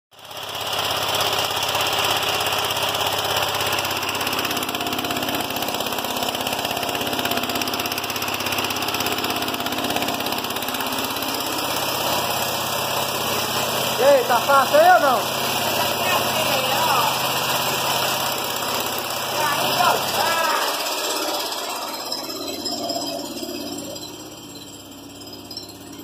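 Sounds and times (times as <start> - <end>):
small petrol engine running: 0.1 - 26.0.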